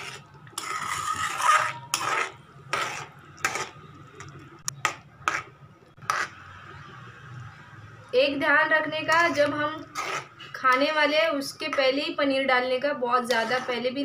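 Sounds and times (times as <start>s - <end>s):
metal spoon scraping a metal pan: 0.0s - 6.6s, 8.6s - 14.0s.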